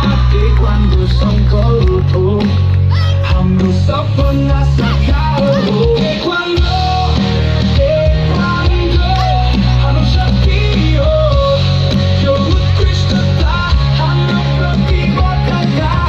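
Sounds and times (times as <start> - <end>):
melodic lead line: 0.0 - 16.0
rock song instrumental: 0.0 - 16.0
steady bass: 0.0 - 16.0.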